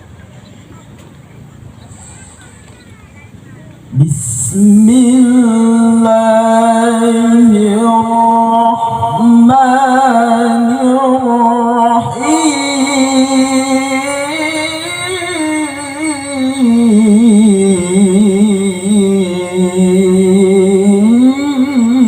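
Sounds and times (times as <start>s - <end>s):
man chanting melodic recitation: 3.9s - 22.0s.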